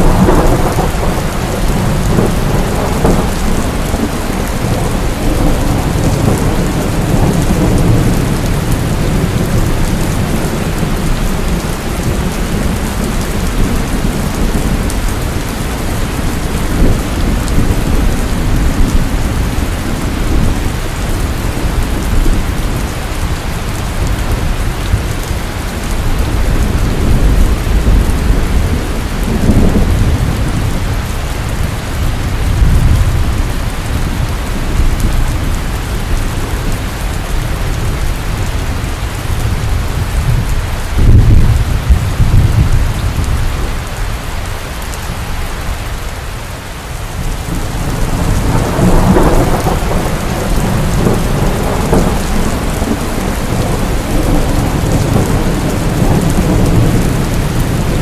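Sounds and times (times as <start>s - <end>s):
thunder rumbling: 0.0s - 45.8s, 47.0s - 58.0s
heavy rain pouring: 0.0s - 58.0s.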